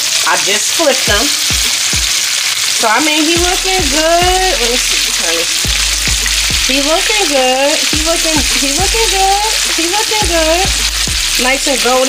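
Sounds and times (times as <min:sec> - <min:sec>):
oil bubbling and sizzling: 0:00.0 - 0:12.0.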